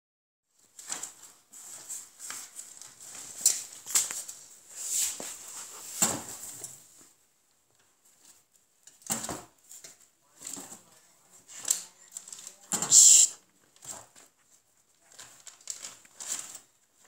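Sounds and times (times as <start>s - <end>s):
paper and plastic rustling: 0.5s - 17.0s.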